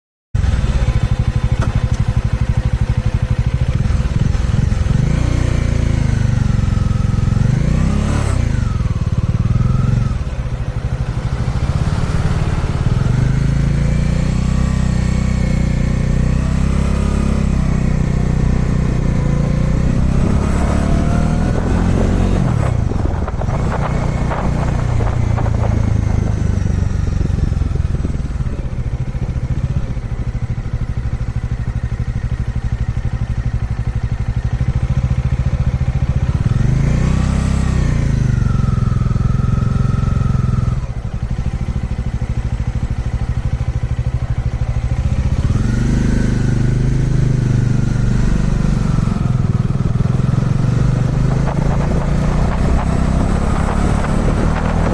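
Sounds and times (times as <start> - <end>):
motorcycle engine revving: 0.4 - 54.9.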